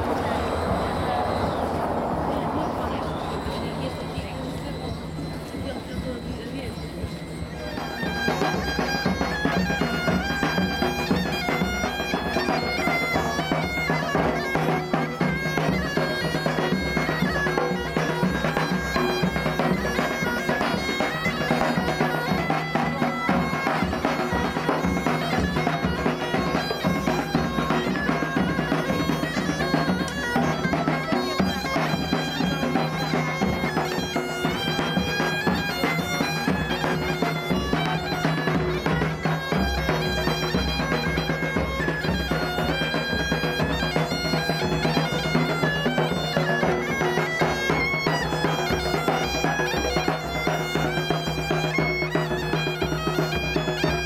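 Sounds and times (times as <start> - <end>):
bagpipes playing a melody: 0.0 - 54.0
side drum beating: 0.0 - 54.0.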